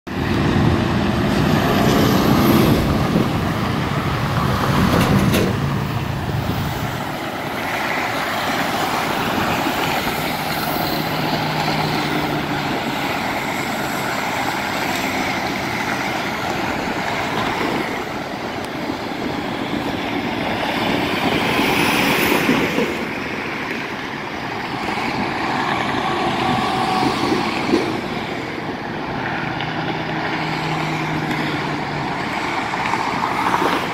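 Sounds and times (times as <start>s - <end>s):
freeway traffic noise: 0.1s - 33.9s.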